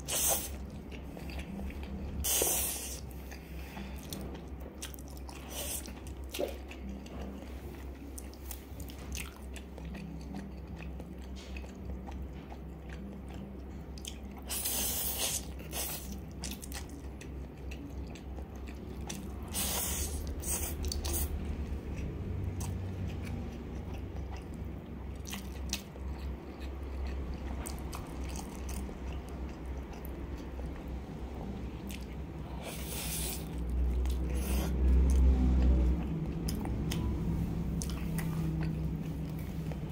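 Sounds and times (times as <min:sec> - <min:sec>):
chewing noodles: 0:00.0 - 0:39.9.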